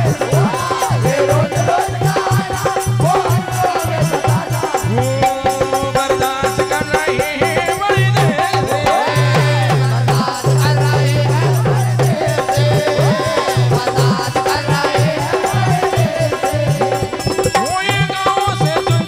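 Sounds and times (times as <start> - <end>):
drum beat: 0.0 - 19.0
jingling hand percussion: 0.0 - 19.0
person singing devotional song: 0.0 - 19.0.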